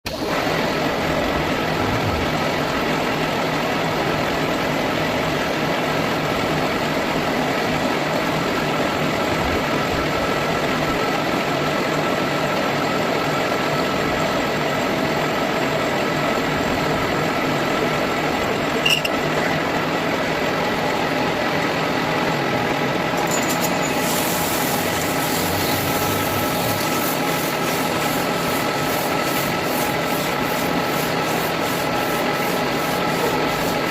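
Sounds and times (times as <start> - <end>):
machine running: 0.1 - 14.0, 16.0 - 33.9.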